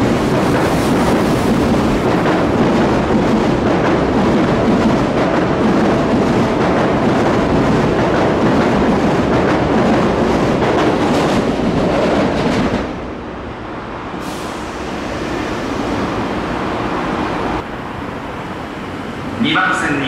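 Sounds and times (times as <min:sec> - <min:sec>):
subway train running: 0:00.0 - 0:20.0.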